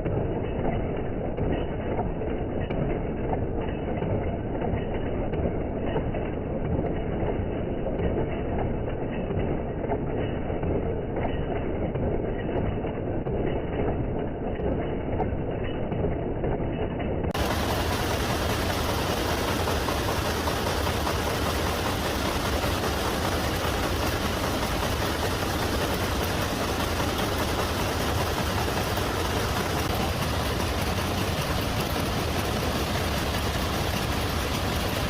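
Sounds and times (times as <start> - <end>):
machinery clattering: 0.0 - 35.0.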